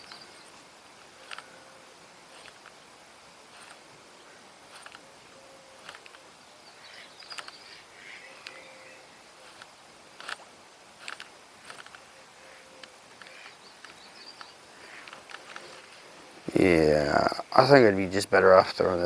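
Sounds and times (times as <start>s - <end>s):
faint chirps: 0.0s - 2.8s, 3.5s - 10.4s, 11.1s - 17.8s.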